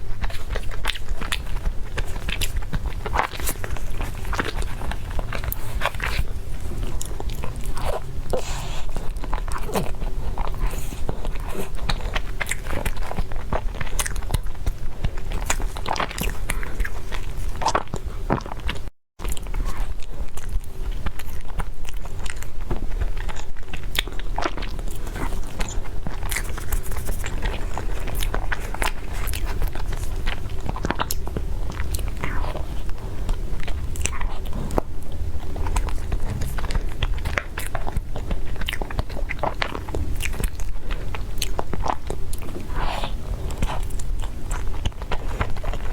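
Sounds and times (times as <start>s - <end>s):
low steady hum: 0.0s - 45.9s
person chewing with clicks: 0.0s - 45.9s.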